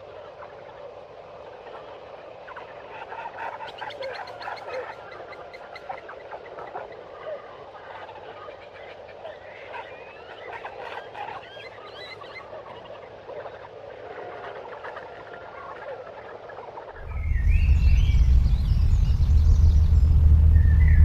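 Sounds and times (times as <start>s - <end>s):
chorus of animal calls: 1.6s - 19.0s.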